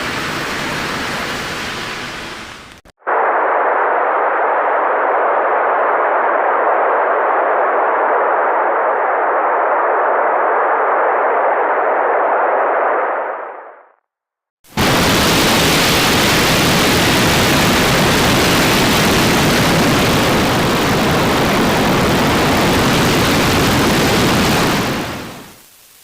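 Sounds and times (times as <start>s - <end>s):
loud steady rushing noise: 0.0s - 13.8s, 14.7s - 25.7s.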